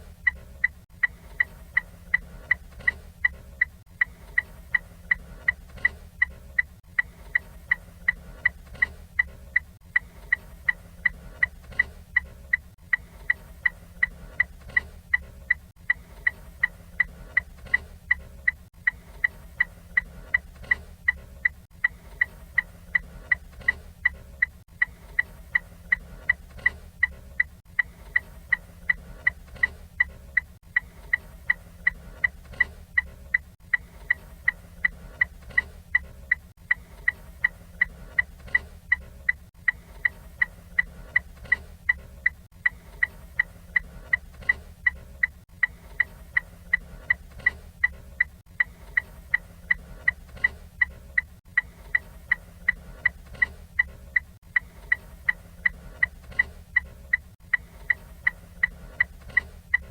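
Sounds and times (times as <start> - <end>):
car turn signal ticking: 0.0 - 59.9.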